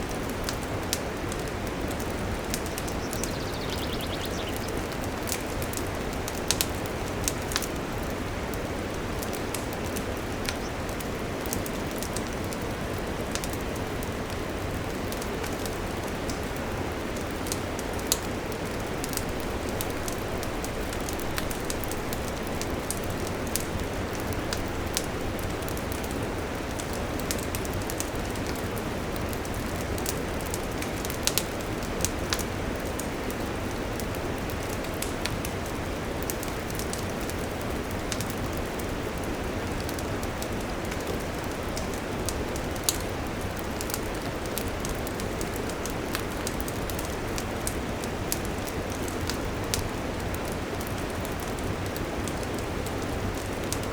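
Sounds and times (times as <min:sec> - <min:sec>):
campfire flames hissing: 0:00.0 - 0:53.9
fire crackling and popping: 0:00.1 - 0:53.9.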